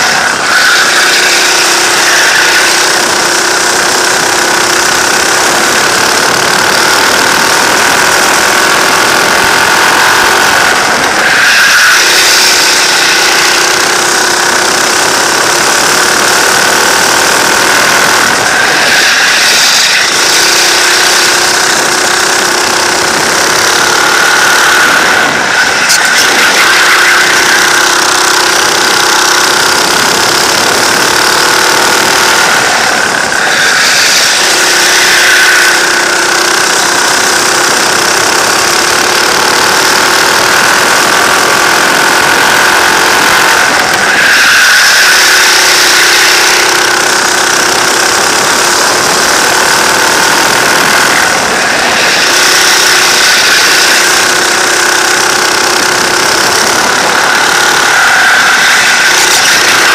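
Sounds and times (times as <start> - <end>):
go-kart engine at race pace: 0.0 - 59.9.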